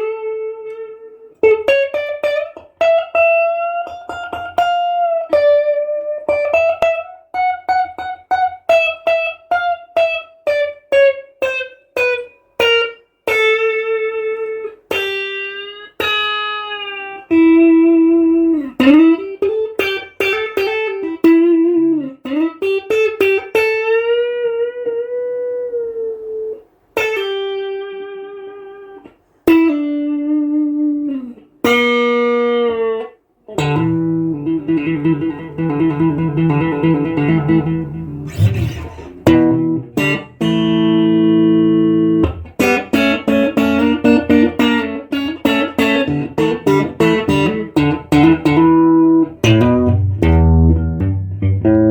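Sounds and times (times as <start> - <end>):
electric guitar lead line: 0.0 - 51.9.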